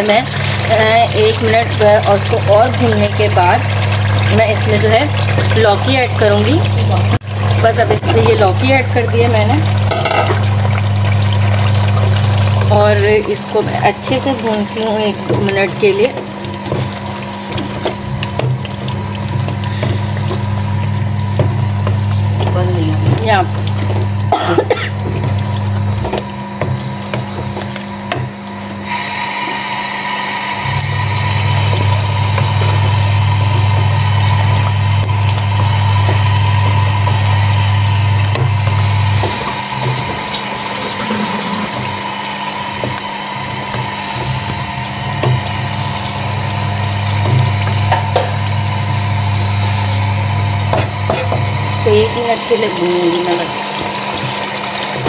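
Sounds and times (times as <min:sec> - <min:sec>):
food sizzling in a pan: 0:00.0 - 0:55.0
low hum: 0:00.2 - 0:28.6, 0:30.6 - 0:53.2.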